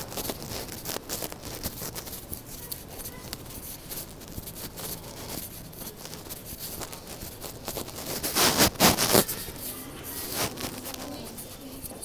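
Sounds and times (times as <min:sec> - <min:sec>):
indoor background noise: 0:00.0 - 0:12.0.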